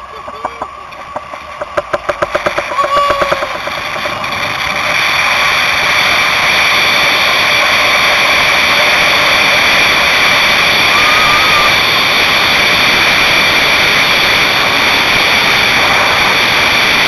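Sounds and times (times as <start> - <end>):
vehicle roaring over dirt track: 0.0 - 17.0.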